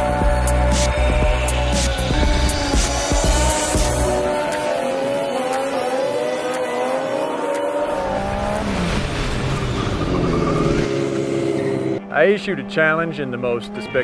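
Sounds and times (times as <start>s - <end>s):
engine revving high: 0.0s - 14.0s
lower engine note: 0.0s - 14.0s.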